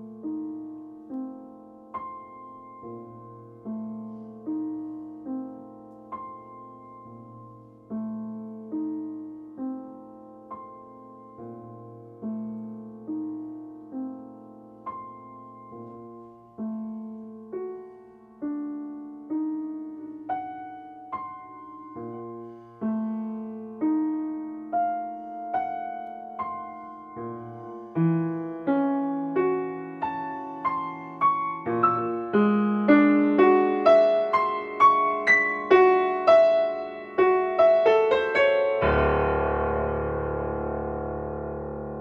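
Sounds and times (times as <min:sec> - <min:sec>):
solo piano notes and chords: 0:00.0 - 0:42.0.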